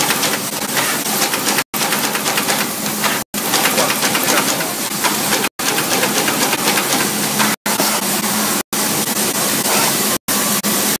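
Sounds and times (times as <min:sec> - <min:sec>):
machine clatter over hum: 0:00.0 - 0:10.8.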